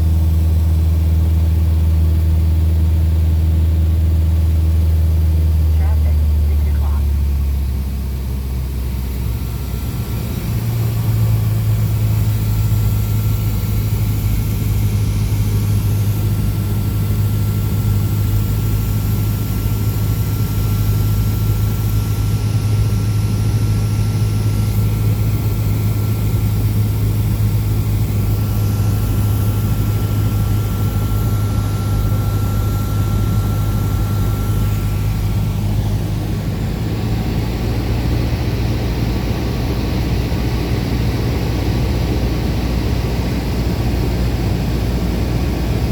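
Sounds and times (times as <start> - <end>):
airplane engine droning: 0.0 - 45.9.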